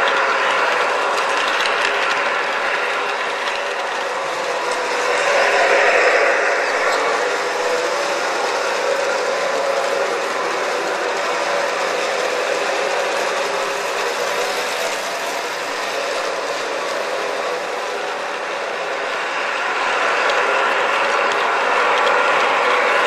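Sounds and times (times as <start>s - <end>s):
model train wheels clattering on rails: 0.0s - 23.0s.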